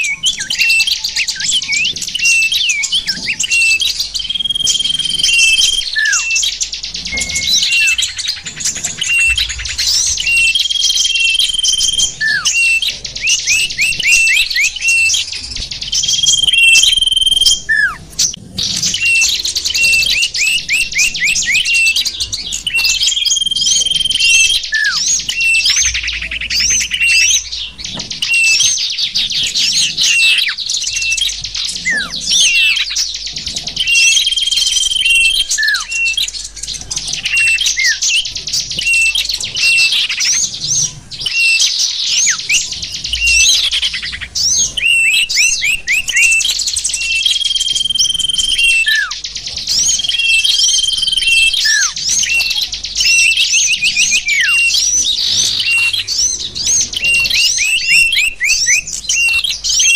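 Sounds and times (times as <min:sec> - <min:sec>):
held bird whistle: 0:00.0 - 0:59.9
small songbirds chirping and trilling: 0:00.0 - 0:59.9.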